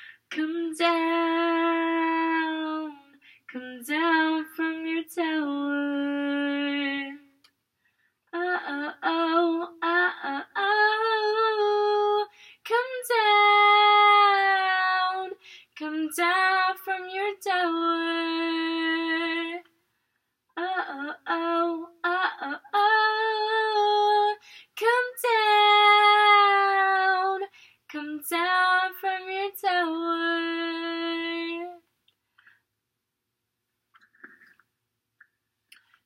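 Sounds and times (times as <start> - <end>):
woman singing a cappella: 0.0 - 7.5, 8.3 - 19.8, 20.5 - 31.9.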